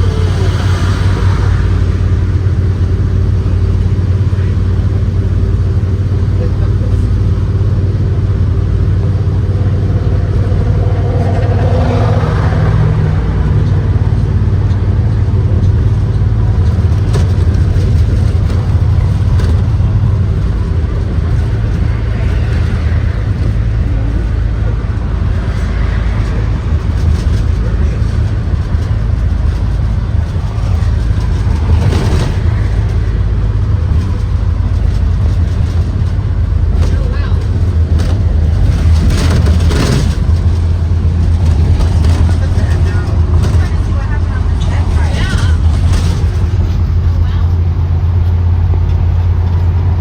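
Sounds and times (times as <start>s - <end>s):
bus engine and road rumble: 0.0s - 50.0s.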